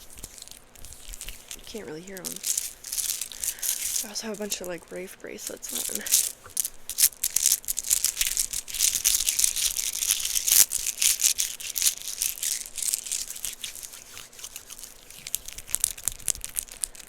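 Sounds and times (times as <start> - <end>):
beads clicking and rattling: 0.0 - 17.0.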